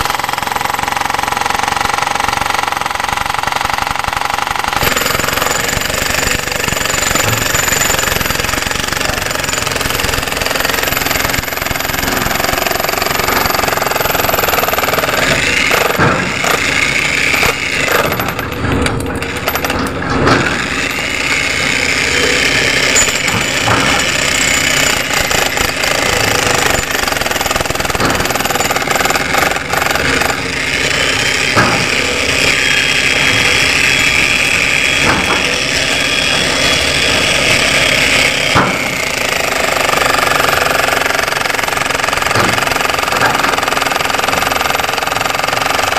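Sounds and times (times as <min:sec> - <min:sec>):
jackhammer hammering concrete: 0:00.0 - 0:45.9.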